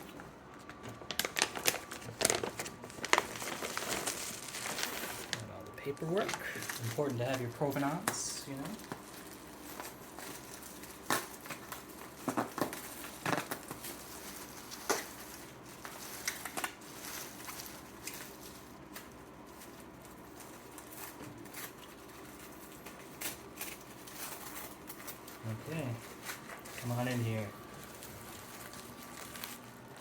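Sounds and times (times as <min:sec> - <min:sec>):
packing paper rustling and crinkling: 0:00.0 - 0:30.0.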